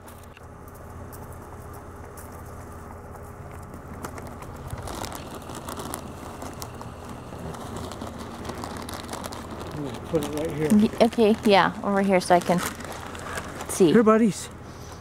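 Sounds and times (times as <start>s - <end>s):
steady low hum: 0.0s - 15.0s
turkeys pecking at cereal: 0.0s - 15.0s.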